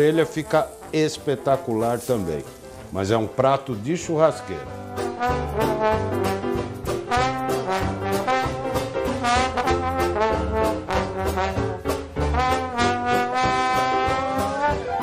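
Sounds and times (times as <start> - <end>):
jazz music with brass: 0.0 - 15.0.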